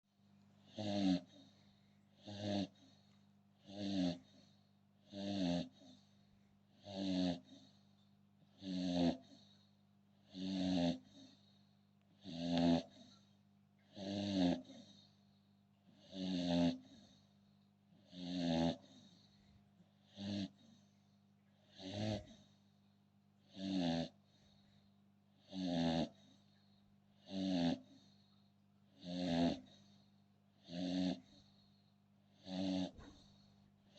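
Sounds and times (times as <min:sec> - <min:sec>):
dog snoring: 0:00.6 - 0:33.9.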